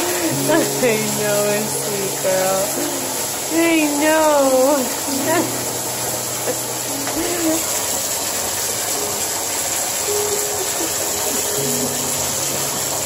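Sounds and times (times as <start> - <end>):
water running into bathtub: 0.0 - 13.0.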